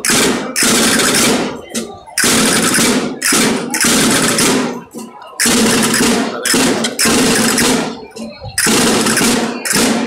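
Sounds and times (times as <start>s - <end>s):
distorted folk dance music: 0.0s - 10.0s
drum: 0.0s - 10.0s.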